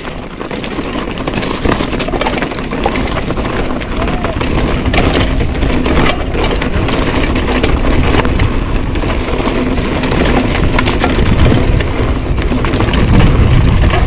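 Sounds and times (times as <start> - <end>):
bike rattling over bumps: 0.0 - 14.0
tyres rolling over gravel: 0.0 - 14.0
wind rumble on microphone: 0.0 - 14.0.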